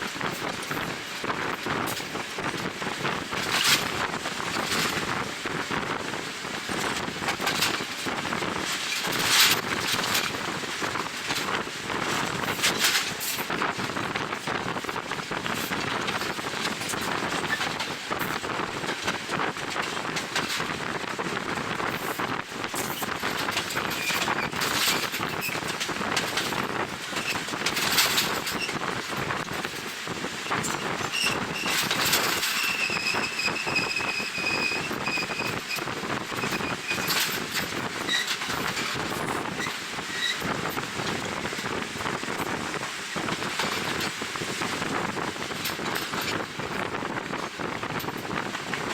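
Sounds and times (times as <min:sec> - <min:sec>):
train wheels rolling on rails: 0:00.0 - 0:48.9
wind on microphone: 0:00.0 - 0:48.9.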